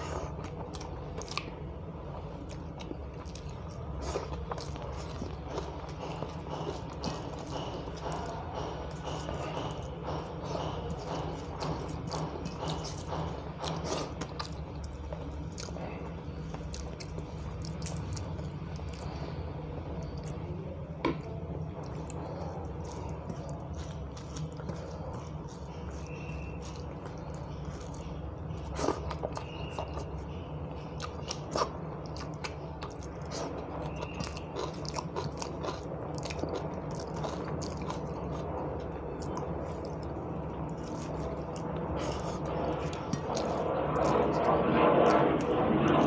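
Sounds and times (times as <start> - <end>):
person chewing: 0.0 - 46.0
steady low hum: 0.0 - 46.0.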